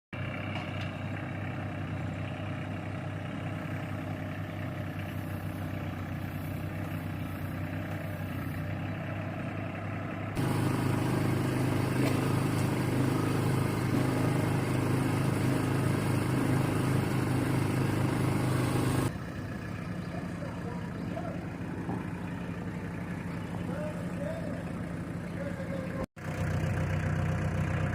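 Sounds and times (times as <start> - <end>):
engine running: 0.2 - 27.9.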